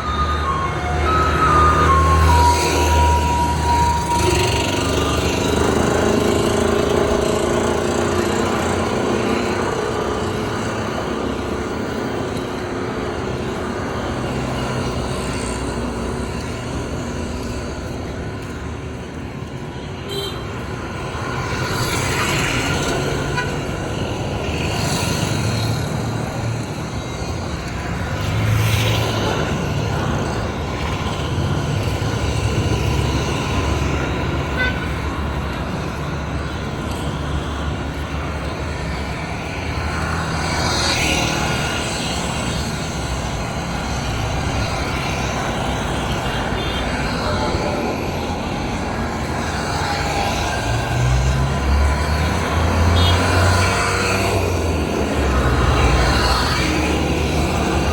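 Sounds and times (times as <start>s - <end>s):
street traffic: 0.0s - 57.9s
vehicles passing: 0.0s - 57.9s.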